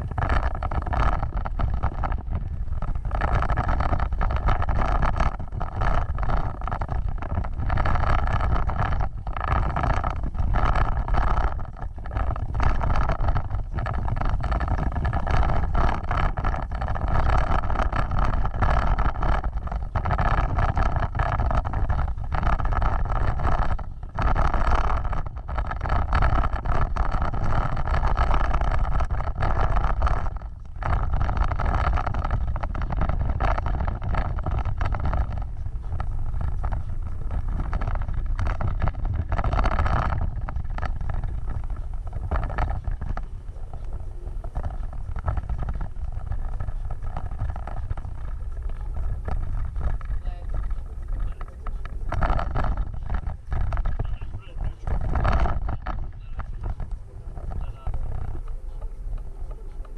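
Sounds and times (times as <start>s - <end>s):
vehicle engine rumbling off-road: 0.0s - 59.9s.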